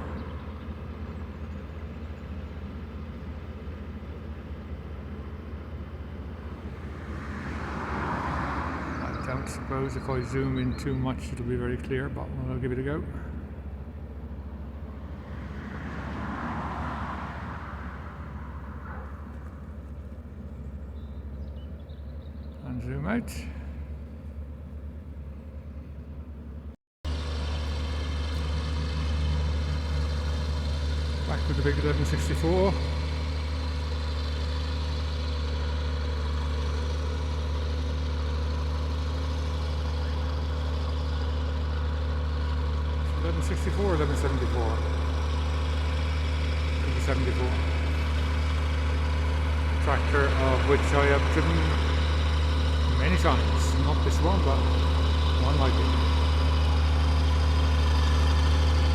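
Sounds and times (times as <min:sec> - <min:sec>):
tractor engines droning: 0:00.0 - 0:58.9.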